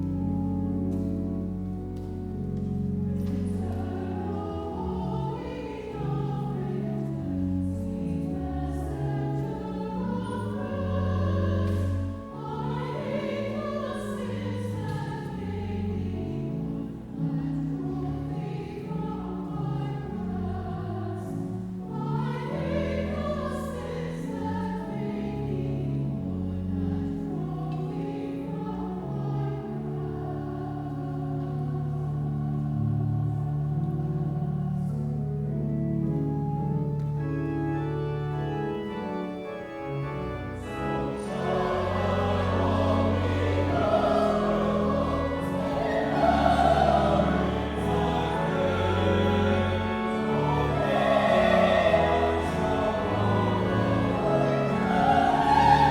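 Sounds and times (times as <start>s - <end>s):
choir singing: 0.0s - 55.9s
held keyboard accompaniment: 0.0s - 55.9s.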